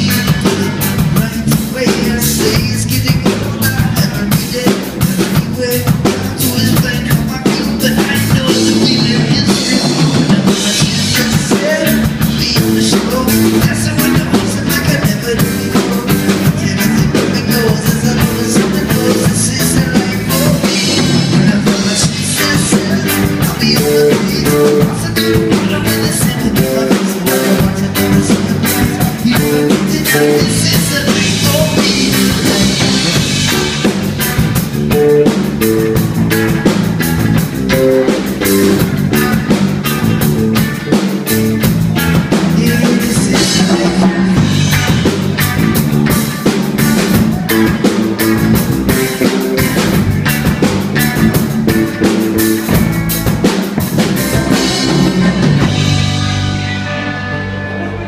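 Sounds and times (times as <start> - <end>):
drum kit steady beat: 0.0 - 57.1
electric guitar: 0.0 - 58.0.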